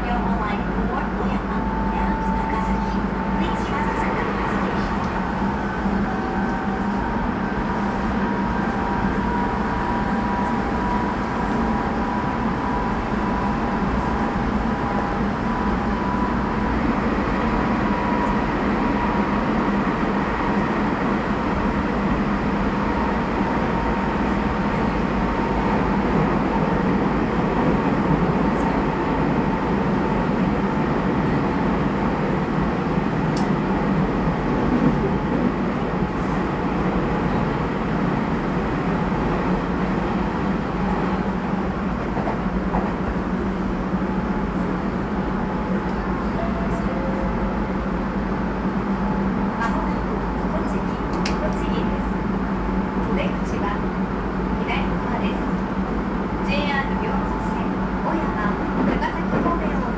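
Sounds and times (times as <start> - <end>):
wheel and rail rumble: 0.0 - 59.9.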